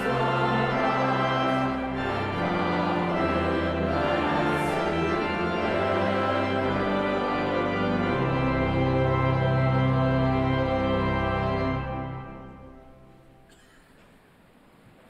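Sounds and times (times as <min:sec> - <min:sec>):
deep bass organ notes: 0:00.0 - 0:13.1
pipe organ playing chords: 0:00.0 - 0:13.5.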